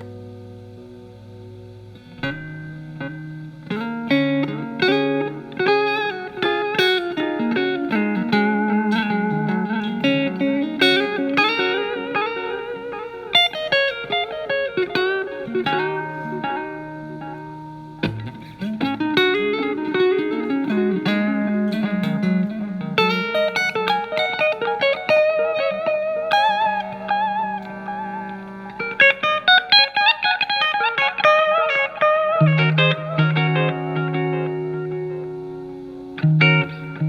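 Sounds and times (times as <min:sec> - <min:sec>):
electric guitar with delay: 0:00.0 - 0:37.0.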